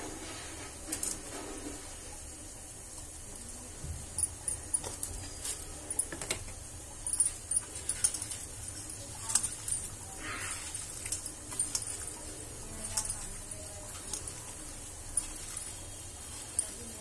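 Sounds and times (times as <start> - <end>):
bangles clinking on steel bowl: 3.3 - 17.0.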